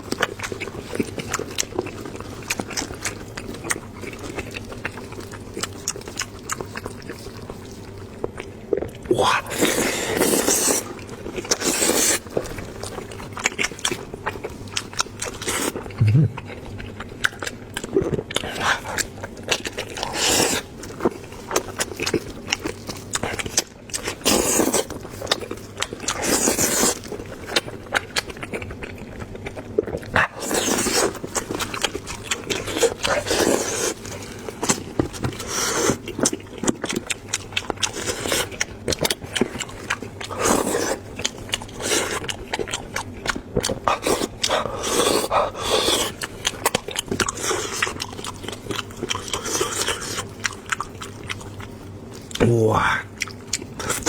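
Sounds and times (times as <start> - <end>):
chewing and lip-smacking: 0.0 - 54.0.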